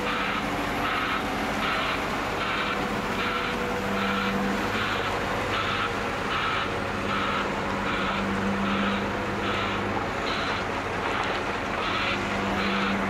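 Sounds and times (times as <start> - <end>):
excavator diesel engine running: 0.0 - 13.0
warning alarm beeping: 0.0 - 13.0.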